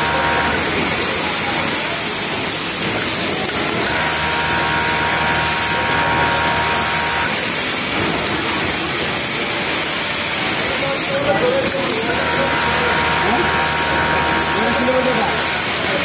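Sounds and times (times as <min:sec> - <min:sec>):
factory floor noise: 0:00.0 - 0:16.0
sewing machine motor hum: 0:00.0 - 0:16.0.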